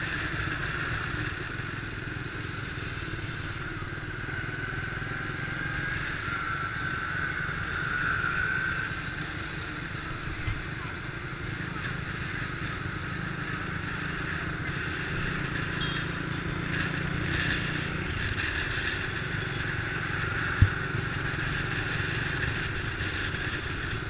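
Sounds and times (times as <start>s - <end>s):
motorbike traffic hum: 0.0s - 24.0s
small motorbike engine running: 0.0s - 24.0s.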